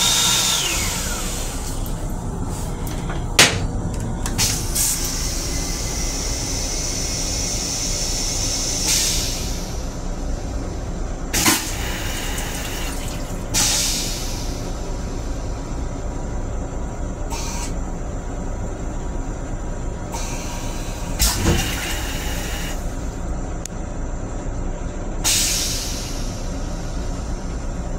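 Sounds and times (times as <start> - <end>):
train low rumble: 0.0 - 27.9.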